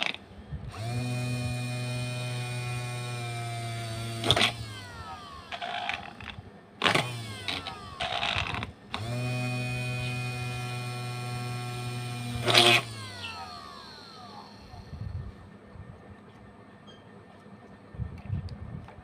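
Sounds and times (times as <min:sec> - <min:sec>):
electric motor drill whining: 0:00.0 - 0:15.2.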